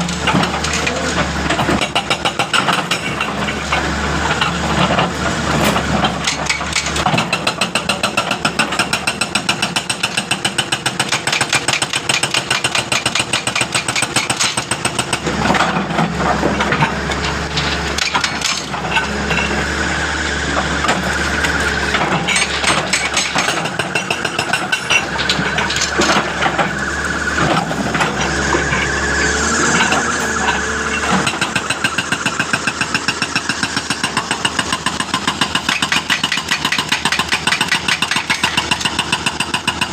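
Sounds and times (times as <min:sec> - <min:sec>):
excavator engine running: 0:00.0 - 0:39.9
hydraulic breaker hammering rock: 0:00.0 - 0:39.9.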